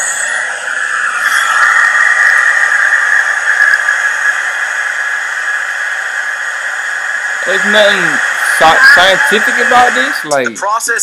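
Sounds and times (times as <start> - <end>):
hair dryer running: 0.0 - 10.6.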